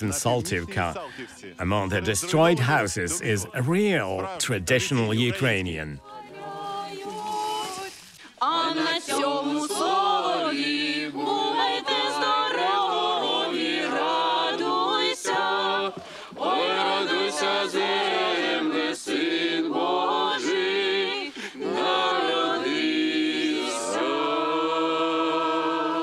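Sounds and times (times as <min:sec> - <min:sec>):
group singing carol unaccompanied: 0:00.0 - 0:26.0.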